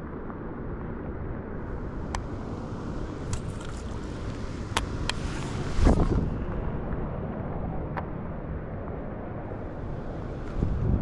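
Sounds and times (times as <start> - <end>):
wind buffeting microphone: 1.6 - 11.0.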